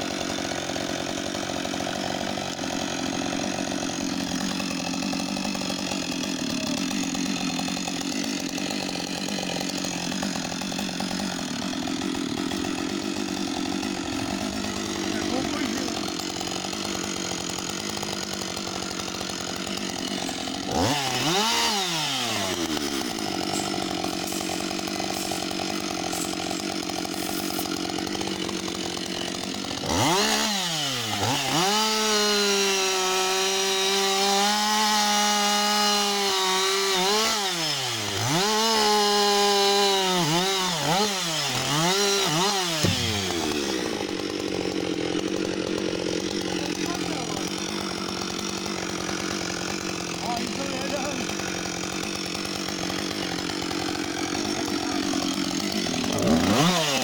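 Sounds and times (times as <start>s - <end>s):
chainsaw cutting wood: 0.0s - 57.0s
chainsaw idling and revving: 0.0s - 57.0s.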